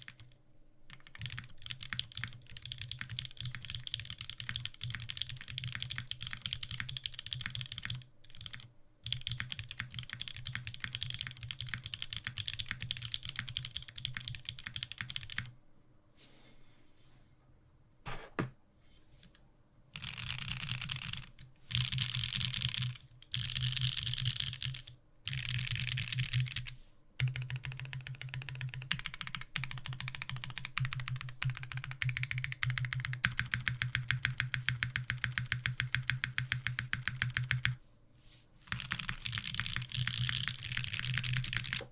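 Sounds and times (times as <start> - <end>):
mechanical keyboard typing: 0.0 - 15.5, 20.0 - 37.8, 38.7 - 41.9.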